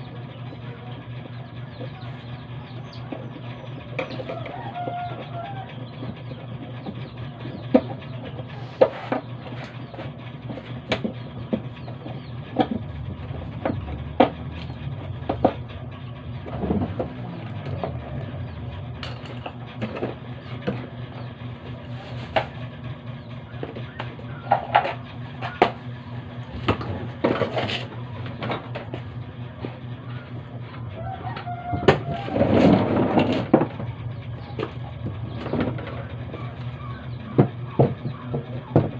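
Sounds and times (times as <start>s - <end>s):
steady low hum: 0.0s - 38.9s
tools and metal parts clanking: 2.8s - 38.9s.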